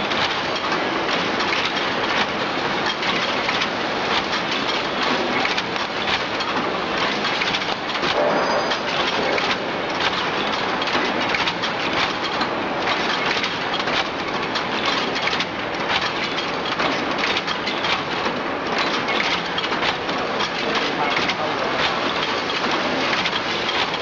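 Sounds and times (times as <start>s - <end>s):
machine clattering metal knocks: 0.0s - 24.0s.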